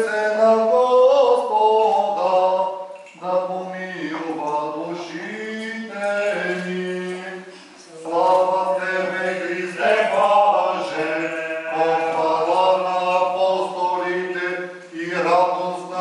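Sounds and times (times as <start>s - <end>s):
liturgical chant: 0.0s - 16.0s.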